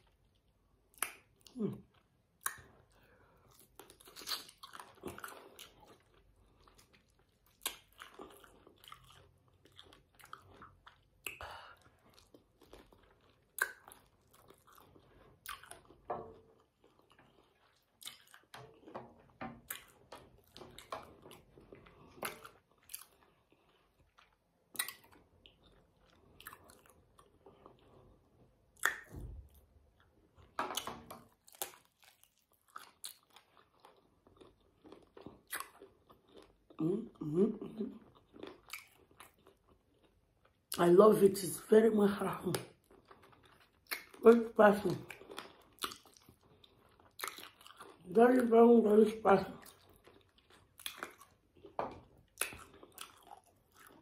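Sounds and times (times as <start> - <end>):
person chewing wetly: 0.0 - 40.8, 42.5 - 48.1, 49.6 - 54.0.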